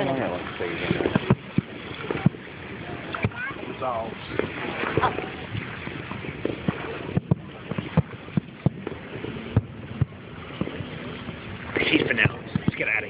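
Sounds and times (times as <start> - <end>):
steady background noise: 0.0 - 13.0
fireworks popping and banging: 0.5 - 13.0.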